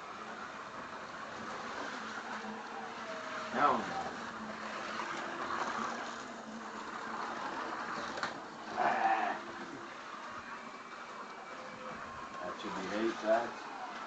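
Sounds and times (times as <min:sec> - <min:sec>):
slot car motors whirring: 0:00.0 - 0:14.0.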